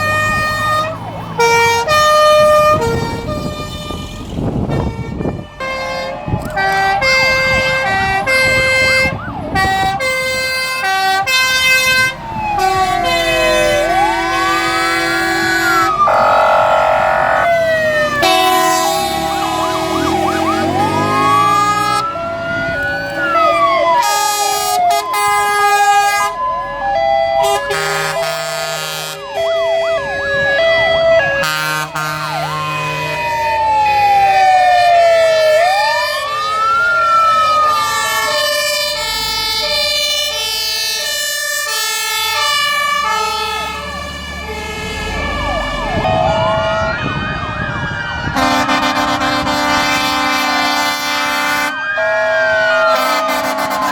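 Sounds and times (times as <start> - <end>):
two-tone fire engine sirens: 0.0 - 53.9
wailing sirens: 0.0 - 53.9.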